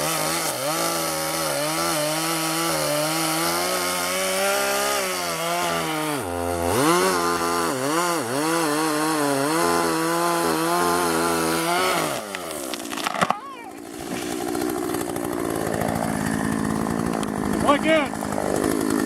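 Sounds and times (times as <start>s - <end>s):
chainsaw cutting tree trunk: 0.0s - 19.0s.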